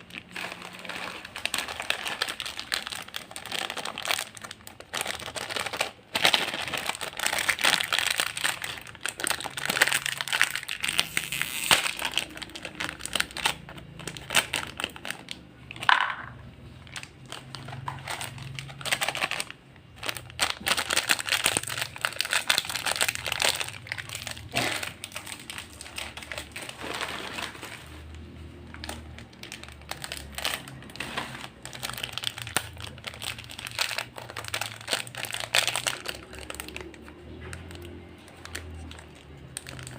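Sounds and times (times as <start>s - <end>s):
plastic snack packets crinkling: 0.0s - 39.9s.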